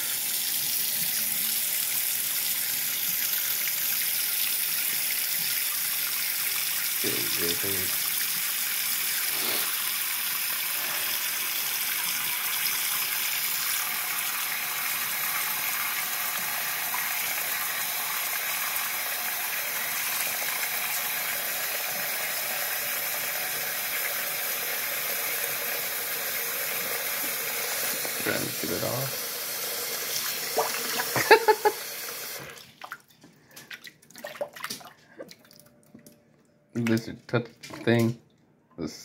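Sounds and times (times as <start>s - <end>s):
tap water running into sink: 0.0s - 35.5s.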